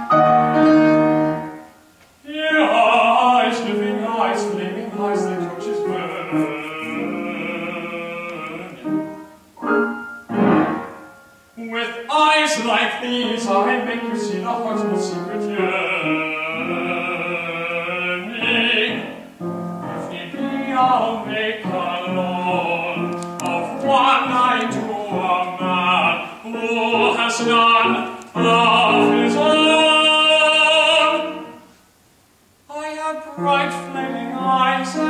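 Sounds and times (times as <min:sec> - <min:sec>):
operatic singing with vibrato: 0:00.0 - 0:09.6, 0:10.4 - 0:31.7, 0:32.7 - 0:35.0.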